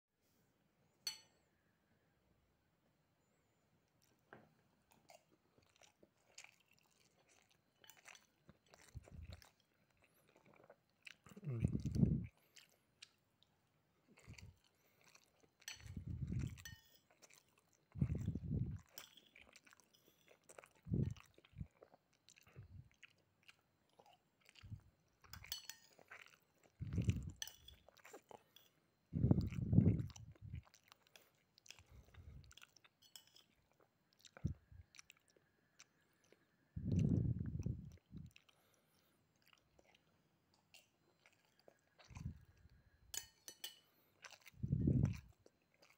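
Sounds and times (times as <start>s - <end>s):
chewing and crunching food: 3.8s - 45.9s.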